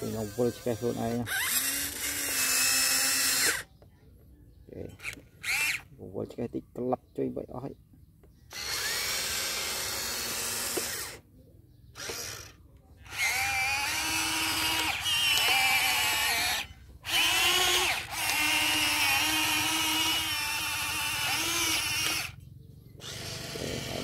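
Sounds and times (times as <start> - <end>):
toy excavator motors whining: 0.0 - 3.8, 4.8 - 5.9, 8.5 - 11.3, 11.9 - 24.0.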